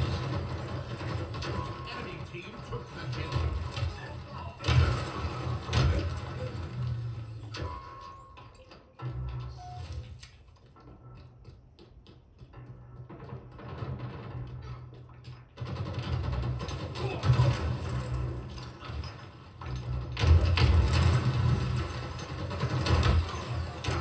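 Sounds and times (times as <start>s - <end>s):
mechanical clanking: 0.0s - 10.5s, 13.5s - 24.0s.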